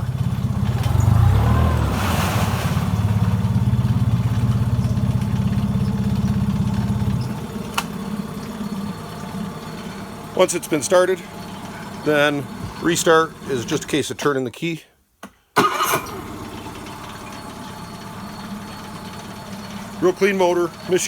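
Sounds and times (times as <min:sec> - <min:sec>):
outboard motor running: 0:00.0 - 0:14.2, 0:15.6 - 0:21.0.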